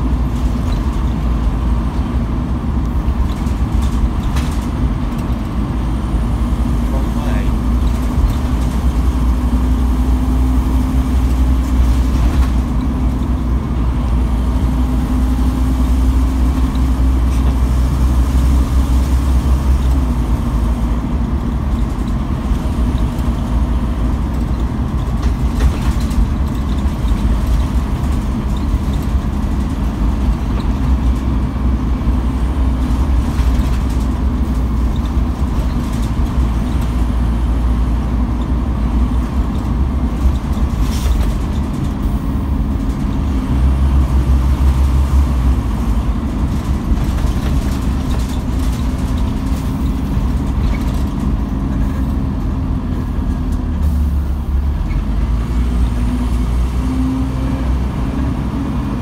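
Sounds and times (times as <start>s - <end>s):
bus diesel engine drone: 0.0s - 59.0s
road and body noise: 0.0s - 59.0s.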